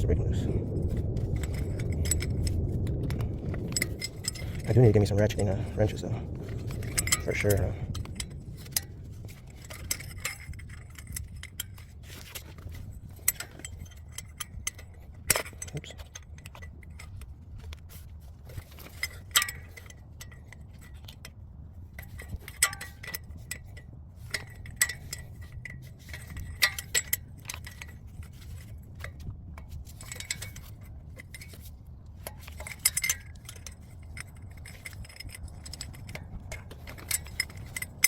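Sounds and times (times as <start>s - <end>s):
low steady hum: 0.0s - 38.0s
metallic wrench clinks: 0.9s - 17.3s, 22.0s - 38.0s.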